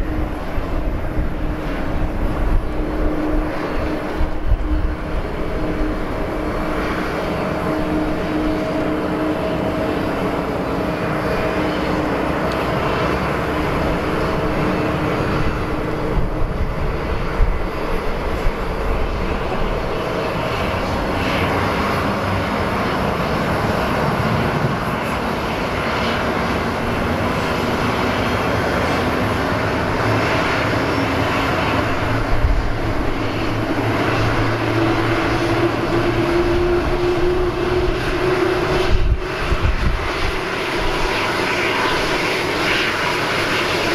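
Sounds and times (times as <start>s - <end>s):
jet engine running: 0.0s - 43.9s.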